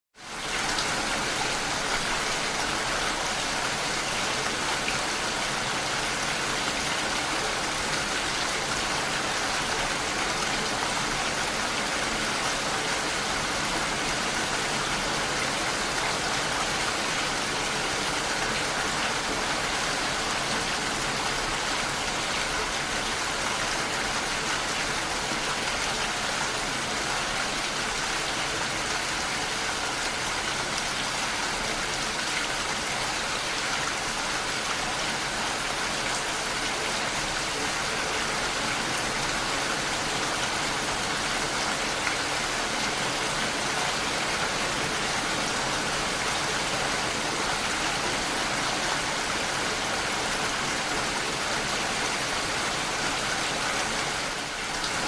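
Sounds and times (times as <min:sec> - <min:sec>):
steady rain falling: 0:00.2 - 0:55.0.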